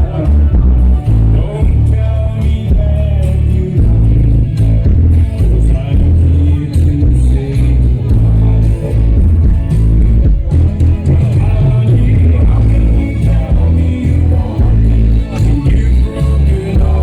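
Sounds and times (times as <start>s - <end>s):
dance music with heavy bass: 0.0s - 17.0s
person singing: 0.0s - 17.0s.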